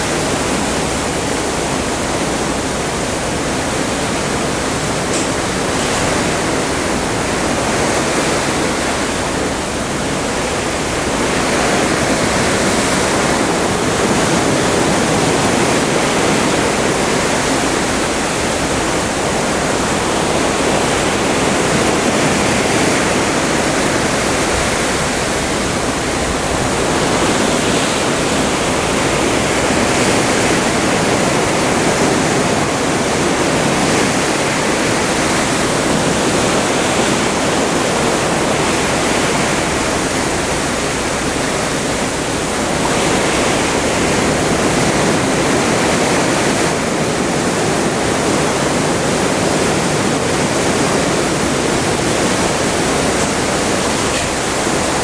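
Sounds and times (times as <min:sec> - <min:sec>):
seawater rushing along ship hull: 0:00.0 - 0:55.0.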